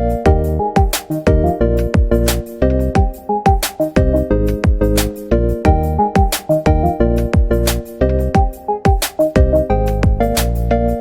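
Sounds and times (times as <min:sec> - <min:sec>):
upbeat music with drum beat: 0:00.0 - 0:11.0.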